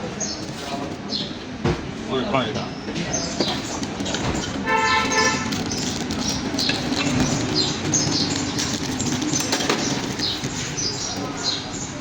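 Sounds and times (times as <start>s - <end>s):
small birds chirping: 0.1s - 1.4s, 2.2s - 12.0s.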